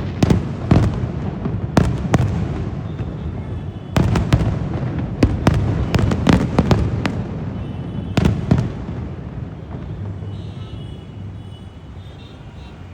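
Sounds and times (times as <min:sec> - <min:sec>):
fireworks bangs: 0:00.0 - 0:12.2.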